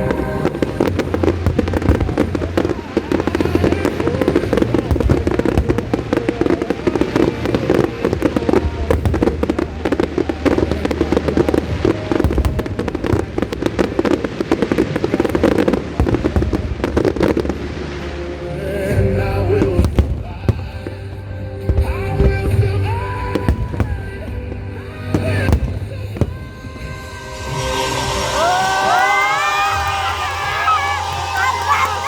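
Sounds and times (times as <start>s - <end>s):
fireworks bangs and crackling: 0.0s - 32.0s
show music: 0.0s - 32.0s.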